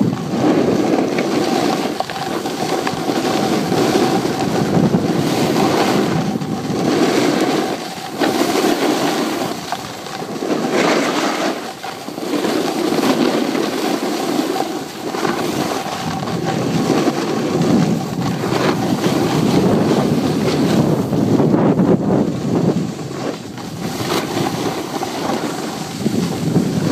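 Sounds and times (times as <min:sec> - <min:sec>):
skis scraping on packed snow: 0:00.0 - 0:26.9
wind rushing over microphone: 0:00.0 - 0:26.9.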